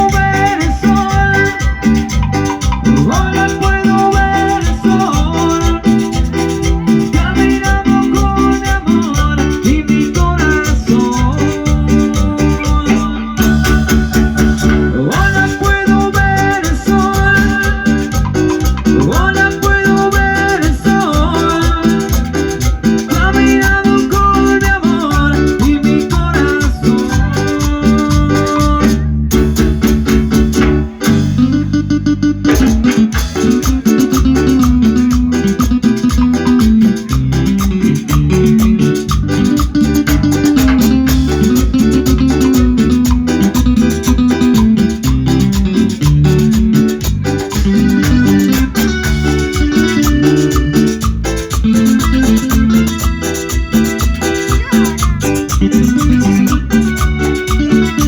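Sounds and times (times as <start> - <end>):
latin band music: 0.0 - 58.0.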